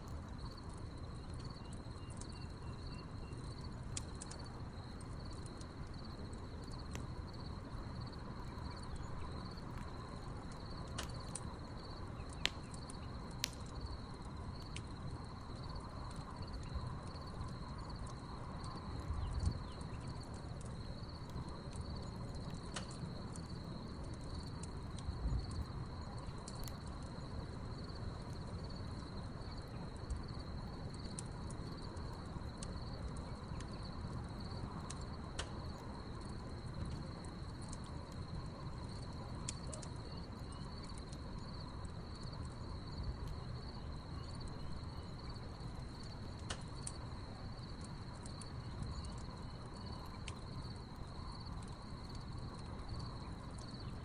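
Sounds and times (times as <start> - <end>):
wood fire crackling: 0.0 - 54.0
crickets chirping: 0.2 - 54.0.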